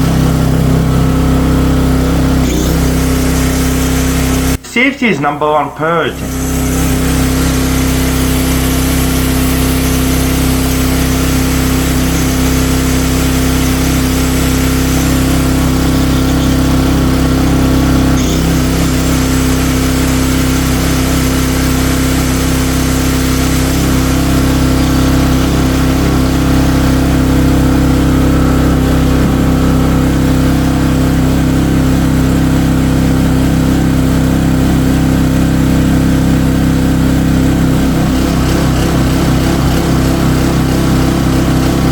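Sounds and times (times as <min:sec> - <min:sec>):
generator engine running: 0:00.0 - 0:41.9.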